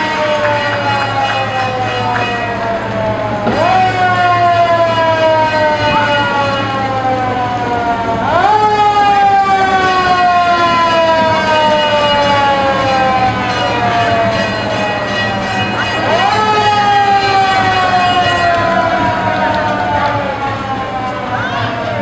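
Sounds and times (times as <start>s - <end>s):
fire engine siren wailing: 0.0s - 22.0s.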